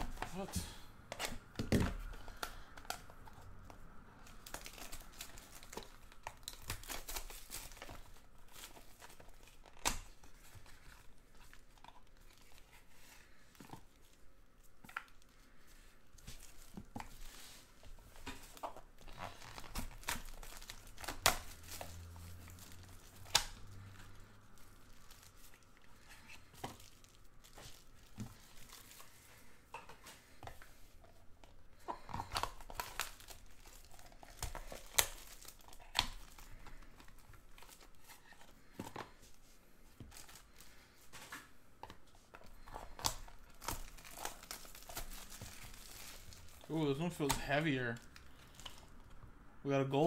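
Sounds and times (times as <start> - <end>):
card packs handled: 0.0 - 49.2
plastic wrap tearing and crinkling: 1.1 - 29.7, 30.5 - 39.4, 40.0 - 41.1, 41.9 - 49.1.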